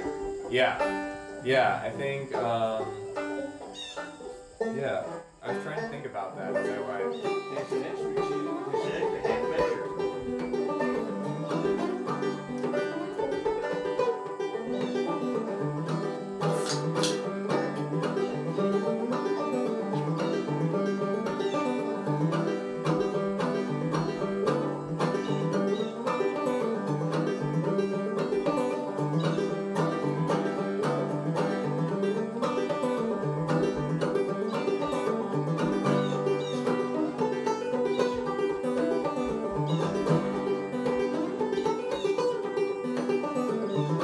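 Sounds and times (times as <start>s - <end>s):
banjo plucked tune: 0.0s - 44.0s.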